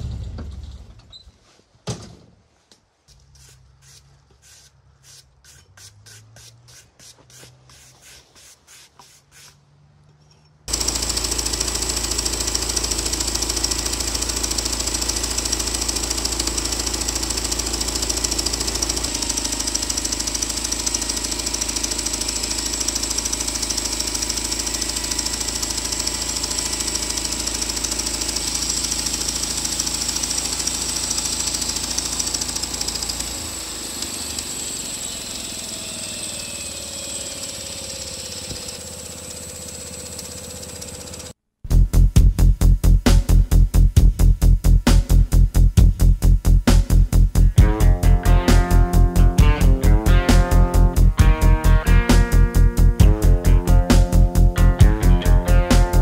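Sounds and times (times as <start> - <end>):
sawmill engine running: 3.1 - 10.1, 10.7 - 41.4, 47.4 - 56.0.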